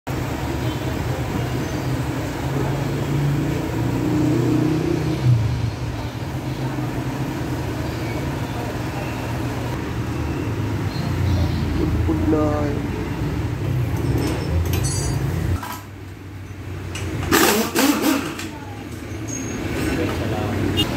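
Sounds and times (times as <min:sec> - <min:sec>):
vehicle engine running: 0:00.1 - 0:20.9.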